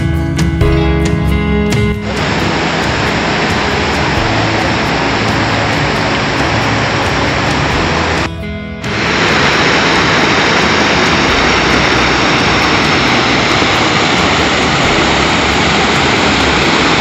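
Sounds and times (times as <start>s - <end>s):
water rushing over weir: 2.0s - 17.0s.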